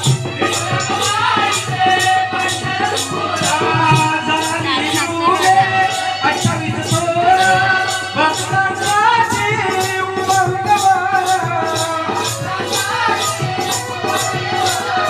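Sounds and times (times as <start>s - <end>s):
rattling percussion: 0.0s - 15.0s.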